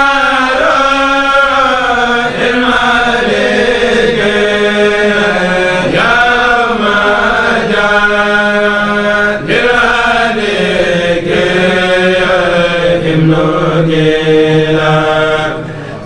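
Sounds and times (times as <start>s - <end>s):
men chanting: 0.0s - 16.0s.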